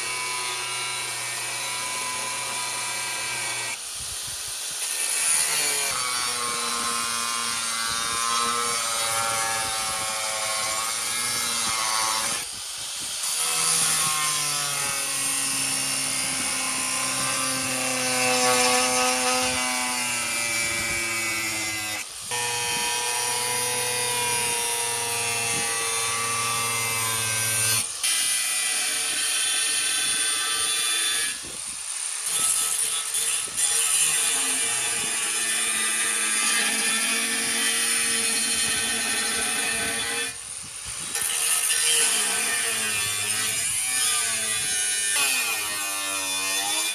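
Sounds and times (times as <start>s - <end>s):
power tool grinding metal: 0.0s - 46.9s.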